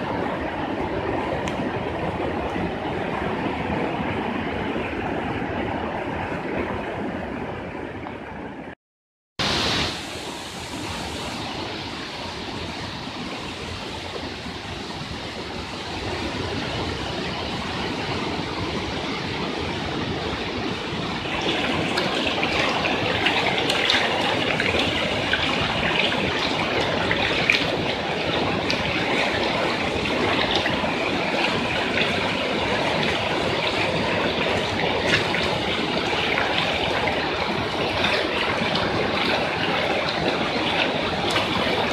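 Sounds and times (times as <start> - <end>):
floodwater rushing: 0.0 - 8.7, 9.4 - 41.9.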